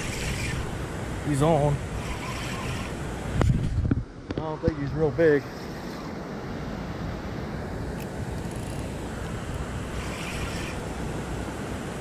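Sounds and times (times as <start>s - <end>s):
river water flowing: 0.0s - 12.0s
wind: 0.0s - 12.0s.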